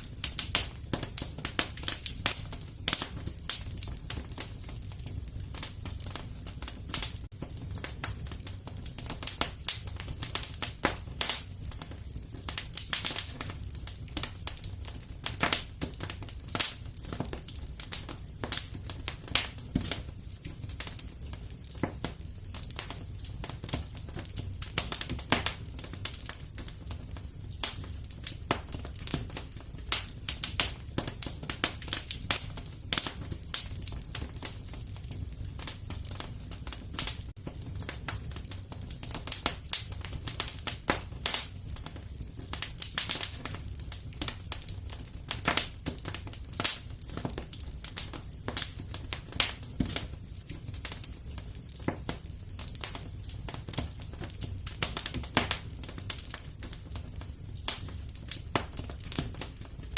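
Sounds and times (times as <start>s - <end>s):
low rumble of burning: 0.0s - 59.9s
wood fire crackling and popping: 0.0s - 59.9s.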